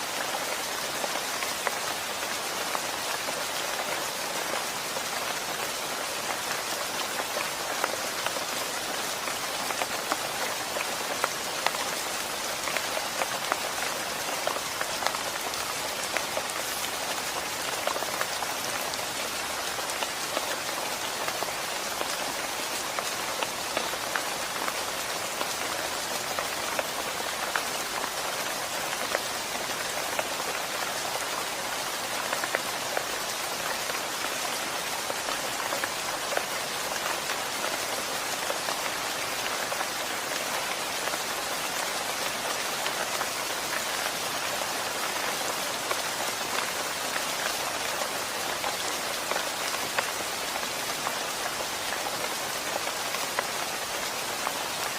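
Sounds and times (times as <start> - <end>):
rain falling: 0.0 - 54.9
raindrops ticking on surfaces: 0.0 - 54.9.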